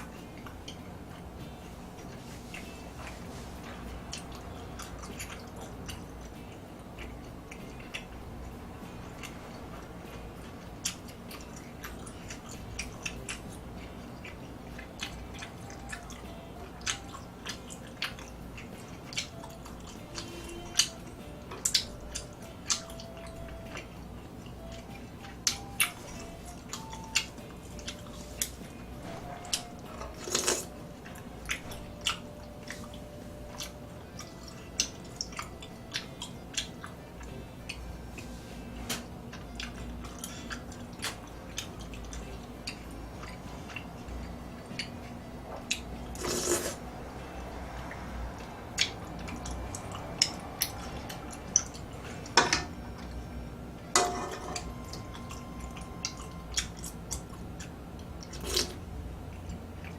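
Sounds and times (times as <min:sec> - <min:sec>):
person chewing food: 0:00.0 - 0:53.5, 0:54.5 - 0:59.9.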